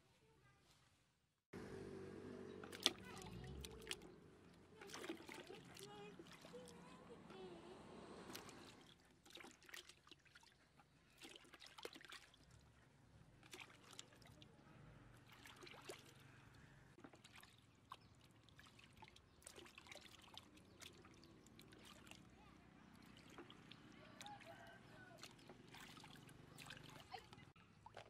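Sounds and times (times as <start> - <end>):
water splashing in a bucket: 2.6 - 7.5, 8.2 - 28.0.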